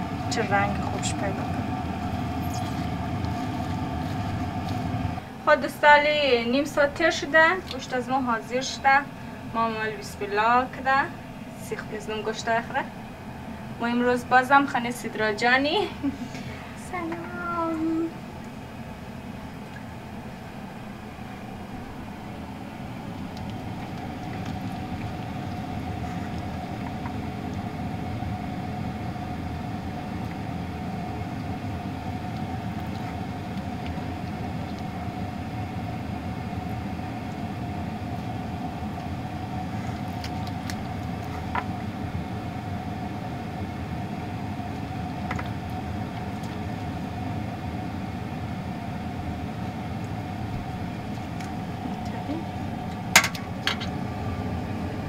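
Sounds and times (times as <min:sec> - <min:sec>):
faint steady hum: 0:00.0 - 0:55.0
low mechanical rumble: 0:00.0 - 0:55.0.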